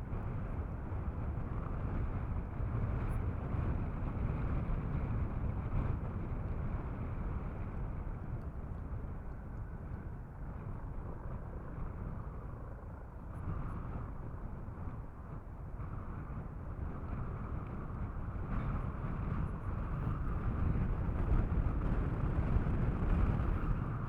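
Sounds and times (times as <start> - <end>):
airliner jet engines rumbling: 0.0 - 24.0.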